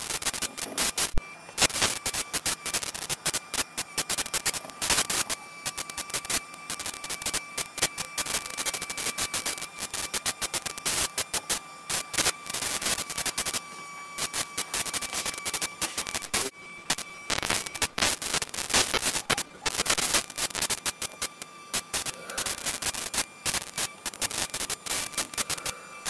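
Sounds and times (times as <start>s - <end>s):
crackling static: 0.0s - 26.0s
steady high whistle: 1.1s - 26.0s.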